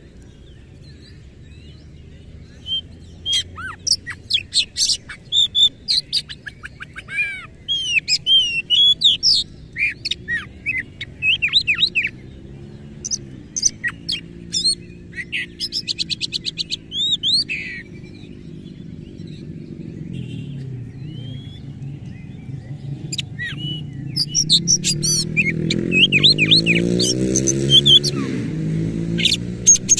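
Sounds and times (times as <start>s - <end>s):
songbird singing whistles and chirps: 0.0s - 29.9s.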